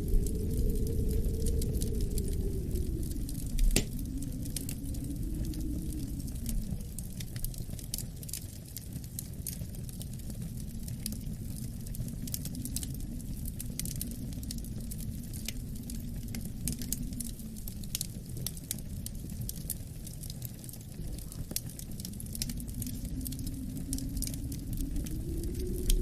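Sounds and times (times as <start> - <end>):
low rumble of wind: 0.0 - 26.0
wood fire crackling and popping: 0.0 - 26.0.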